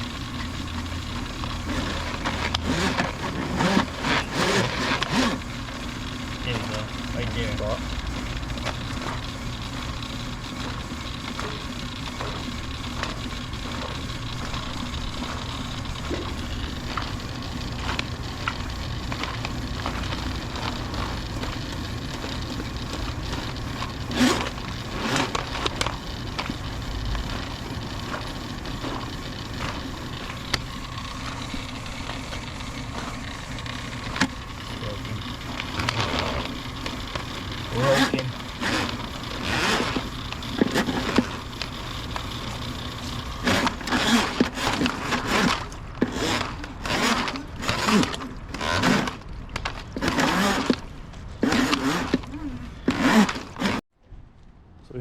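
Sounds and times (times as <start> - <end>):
engine running: 0.0 - 53.8.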